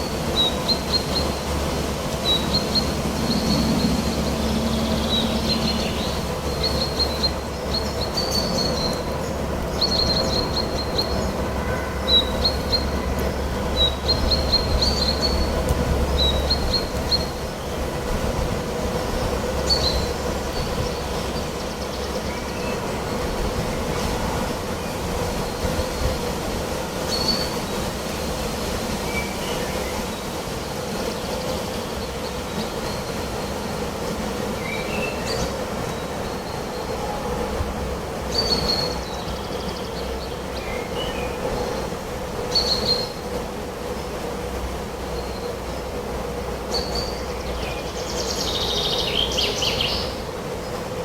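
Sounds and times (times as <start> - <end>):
songbirds chirping: 0.0 - 28.1, 29.0 - 51.0
steady rumbling noise: 0.0 - 51.0.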